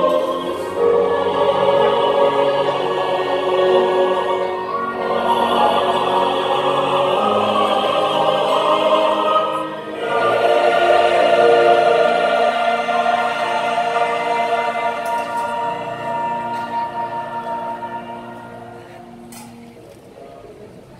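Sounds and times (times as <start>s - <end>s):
choir singing a hymn: 0.0s - 19.2s
violins: 0.0s - 19.4s.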